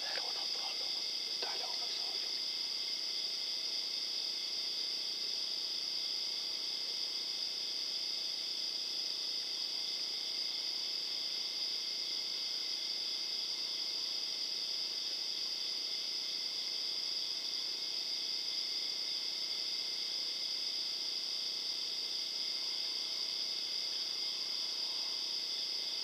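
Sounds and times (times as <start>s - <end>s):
insects chirping at night: 0.0s - 26.0s.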